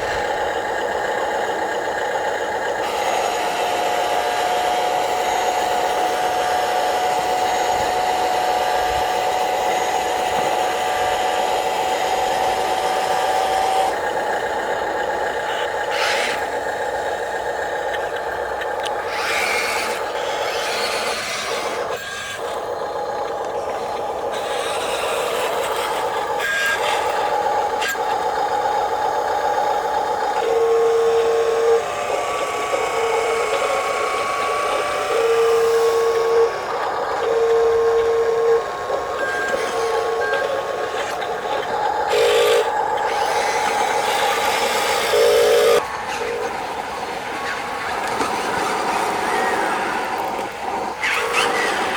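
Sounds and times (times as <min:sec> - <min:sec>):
small electric motors whining: 0:00.0 - 0:51.9.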